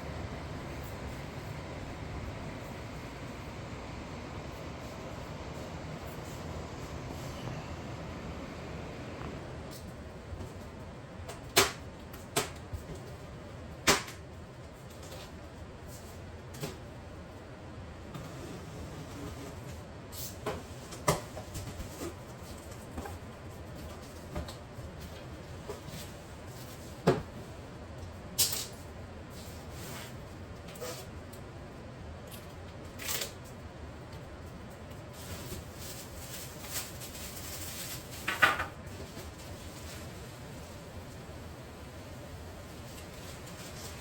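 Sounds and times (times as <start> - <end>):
steady background noise: 0.0 - 44.0.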